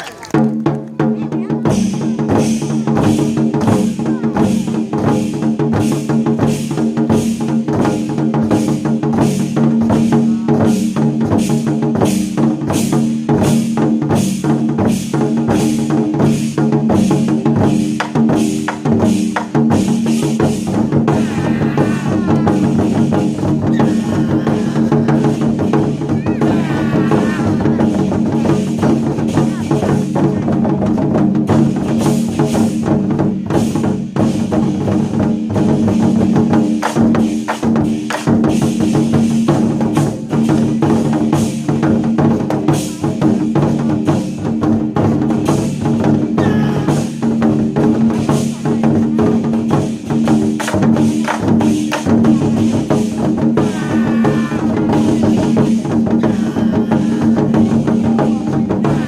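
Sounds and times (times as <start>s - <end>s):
war drums beating: 0.0s - 59.0s.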